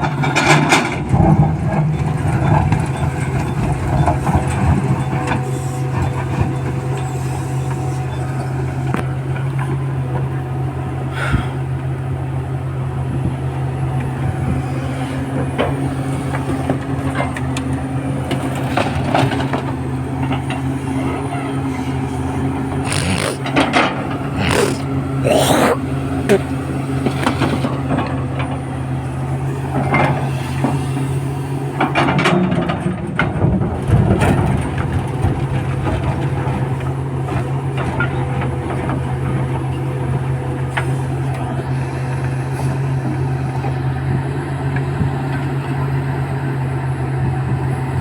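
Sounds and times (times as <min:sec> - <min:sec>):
diesel engine running under load: 0:00.0 - 0:48.0.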